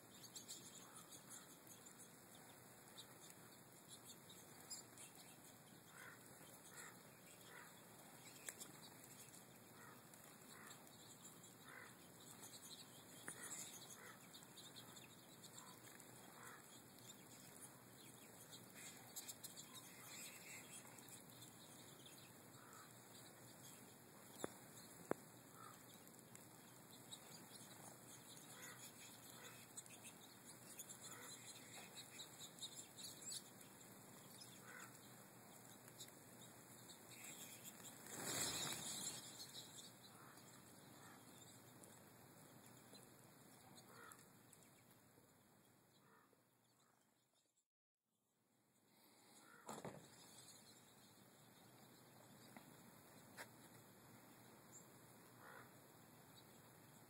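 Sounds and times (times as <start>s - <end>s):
low hiss: 0.0s - 46.6s, 48.6s - 57.0s
faint bird chirps: 0.0s - 47.6s, 48.9s - 57.0s.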